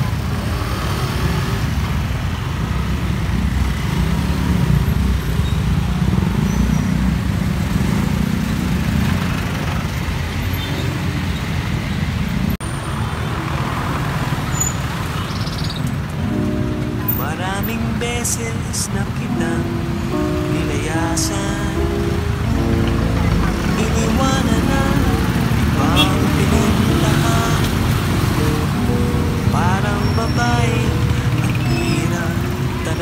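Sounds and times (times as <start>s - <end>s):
heavy traffic rumble: 0.0s - 33.0s.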